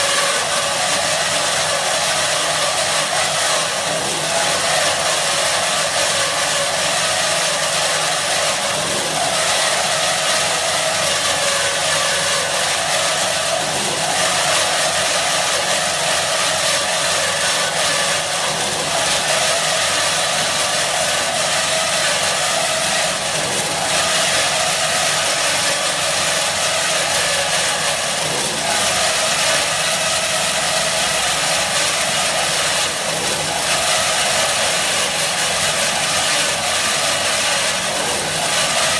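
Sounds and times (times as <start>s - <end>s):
band saw whirring: 0.0s - 38.9s.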